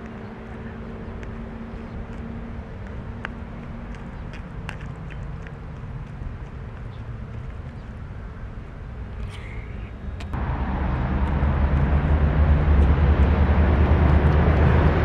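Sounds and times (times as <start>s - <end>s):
approaching vehicle engine drone: 0.0s - 7.2s, 9.0s - 15.0s
road traffic rumble: 0.0s - 15.0s.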